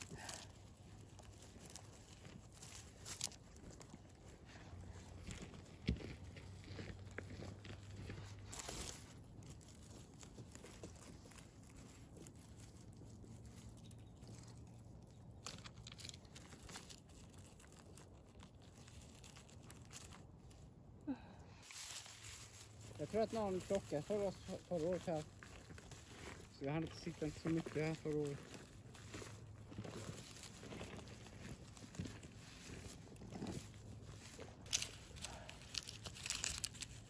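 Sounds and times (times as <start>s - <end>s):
rustling dry pine needles: 0.0s - 37.0s.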